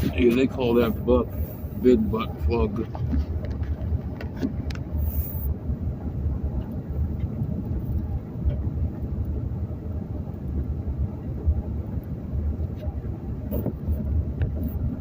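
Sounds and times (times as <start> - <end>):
car driving on gravel road: 0.0 - 15.0.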